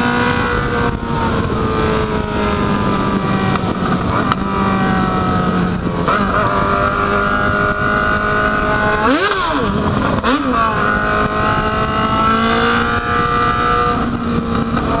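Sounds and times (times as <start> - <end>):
motorcycle engine running: 0.0 - 15.0
wind rushing: 0.0 - 15.0.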